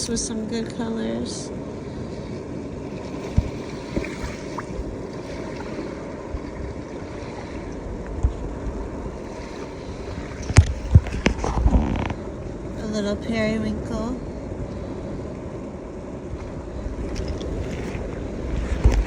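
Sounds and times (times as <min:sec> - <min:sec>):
surf washing on beach: 0:00.0 - 0:19.0
wind buffeting microphone: 0:00.0 - 0:19.0.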